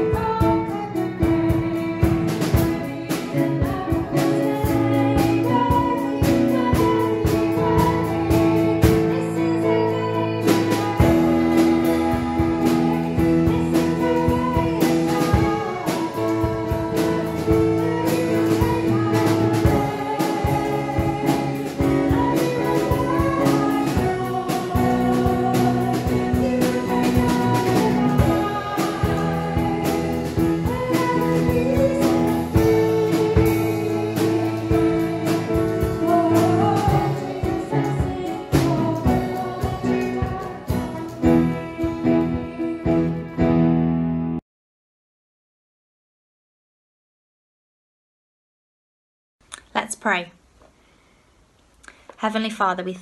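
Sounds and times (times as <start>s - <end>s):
person singing: 0.0s - 43.5s
digital piano: 0.0s - 44.4s.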